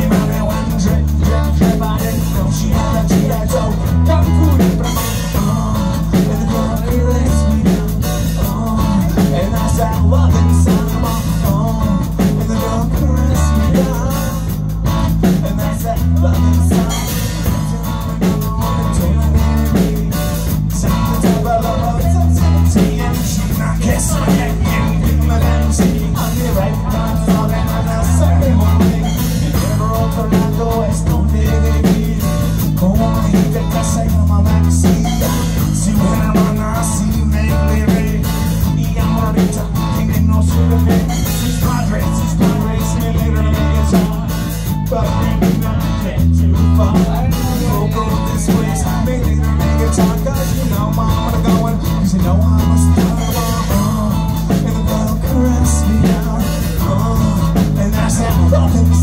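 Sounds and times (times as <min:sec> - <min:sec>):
drum kit: 0:00.0 - 0:59.0
electric guitar: 0:00.0 - 0:59.0
low bass figure: 0:00.0 - 0:59.0
person singing: 0:00.0 - 0:59.0.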